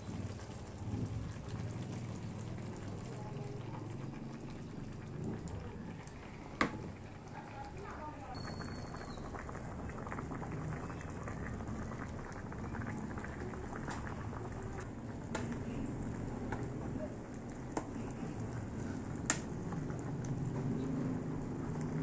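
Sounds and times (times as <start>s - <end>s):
pot bubbling with small pops: 0.0s - 22.0s.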